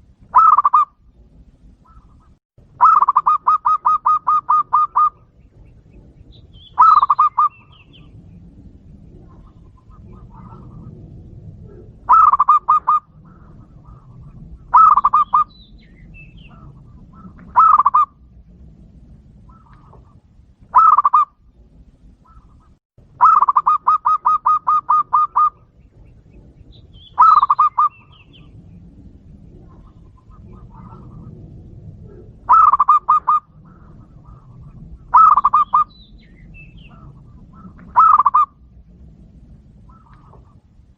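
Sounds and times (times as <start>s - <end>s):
dove cooing: 0.3s - 18.3s, 19.4s - 21.4s, 22.2s - 40.8s.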